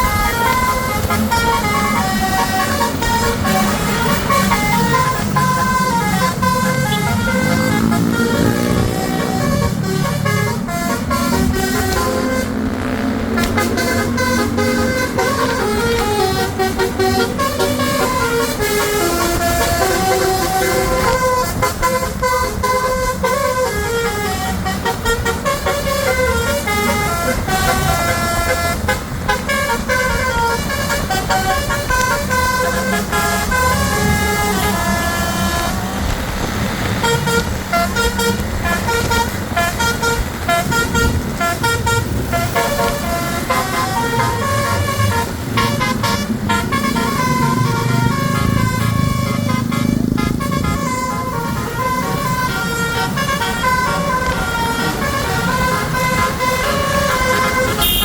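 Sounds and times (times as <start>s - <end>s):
low engine and traffic rumble: 0.0s - 58.0s
multi-tone musical bus horn: 0.0s - 58.0s.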